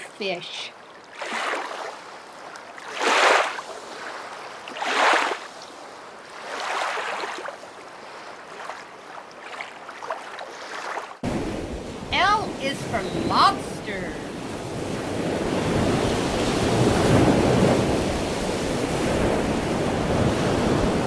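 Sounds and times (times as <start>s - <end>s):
rushing water washes: 1.0s - 5.5s, 6.2s - 21.0s.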